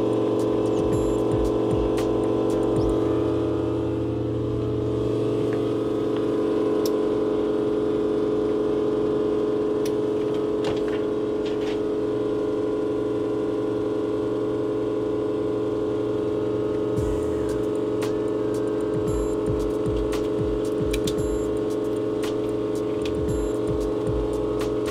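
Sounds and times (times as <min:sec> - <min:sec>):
electric machine hum: 0:00.0 - 0:24.9.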